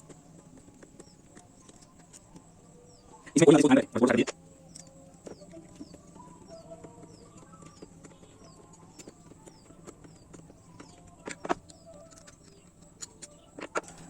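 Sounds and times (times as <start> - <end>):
faint high chirp: 0.0 - 14.0.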